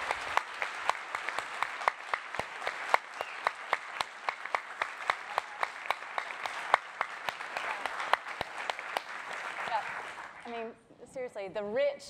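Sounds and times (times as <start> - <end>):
audience applauding: 0.0 - 10.6
close steady hand clapping: 0.0 - 10.6.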